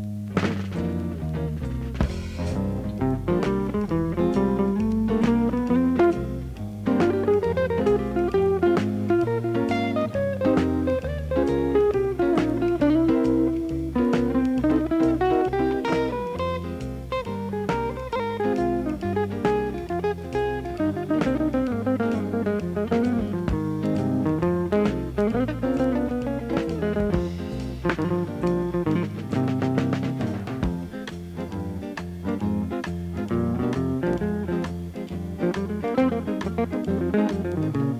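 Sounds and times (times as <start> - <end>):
instrumental guitar music with beat: 0.0 - 37.9.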